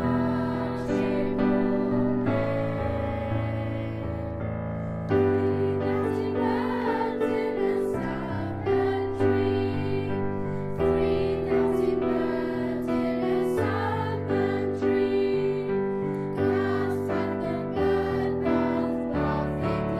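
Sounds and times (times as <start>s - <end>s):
girls choir singing: 0.0s - 19.9s
piano chords: 0.0s - 19.9s.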